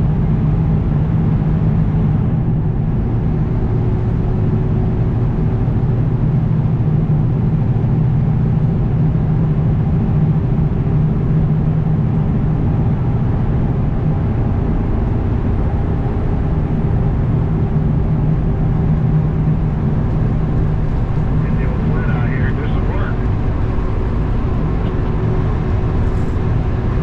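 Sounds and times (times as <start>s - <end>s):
road noise: 0.0s - 27.0s
truck diesel engine running: 0.0s - 27.0s.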